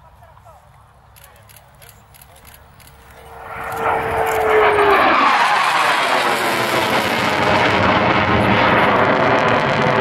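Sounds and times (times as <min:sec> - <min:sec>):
jet rumbling overhead: 0:01.6 - 0:10.0
jet engine whine: 0:01.7 - 0:10.0.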